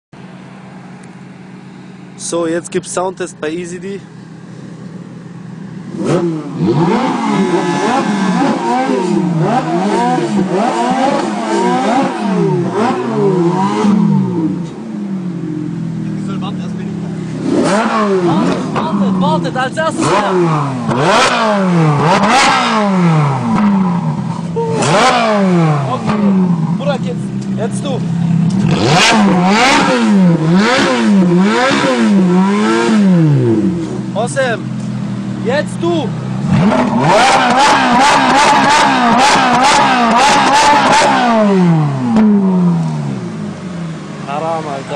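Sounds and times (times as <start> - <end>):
car engines revving: 0.2 - 44.9.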